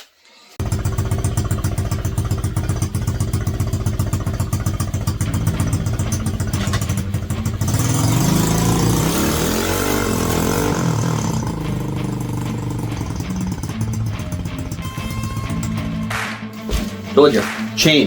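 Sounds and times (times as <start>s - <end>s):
mini bike engine revving: 0.6s - 16.0s.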